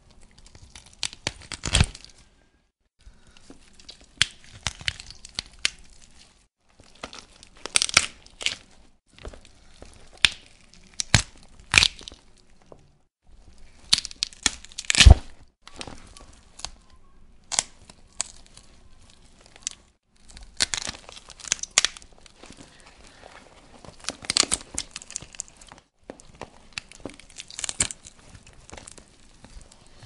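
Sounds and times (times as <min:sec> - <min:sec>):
bones cracking and crunching: 0:00.0 - 0:02.3, 0:03.1 - 0:30.0.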